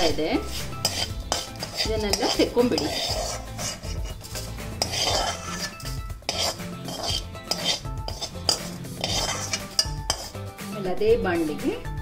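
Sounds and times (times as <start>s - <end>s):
metal spoon scraping metal pan: 0.0s - 10.6s.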